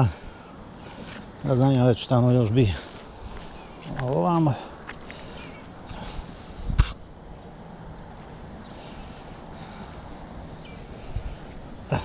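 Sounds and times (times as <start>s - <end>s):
high-pitched insect buzz: 0.0s - 12.0s.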